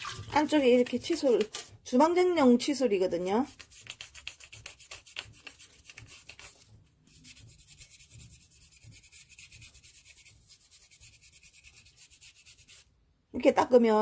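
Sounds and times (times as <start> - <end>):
toothbrush scrubbing bark: 0.0 - 1.7, 3.2 - 12.9.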